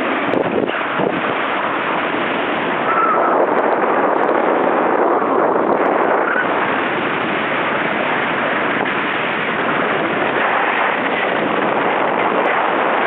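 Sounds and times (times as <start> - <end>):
wind rushing on microphone: 0.0 - 13.0.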